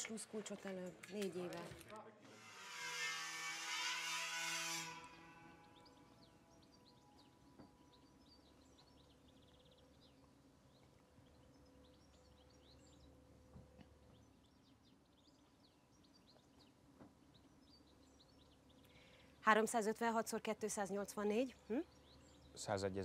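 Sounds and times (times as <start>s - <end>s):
small birds chirping faintly: 0.0s - 23.0s.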